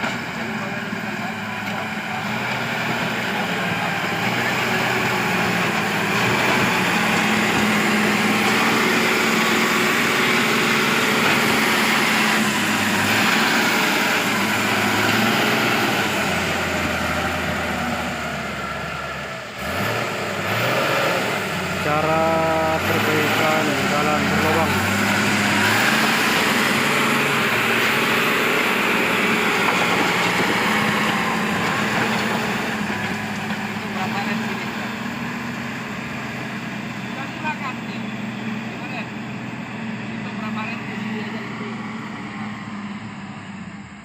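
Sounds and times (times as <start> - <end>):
heavy vehicle engine running: 0.0 - 44.0.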